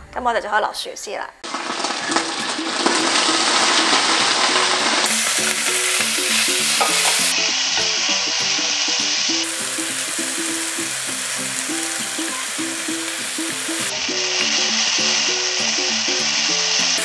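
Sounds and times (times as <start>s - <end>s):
potato sizzling in hot oil: 1.4s - 17.0s
spatula stir-frying: 1.4s - 17.0s.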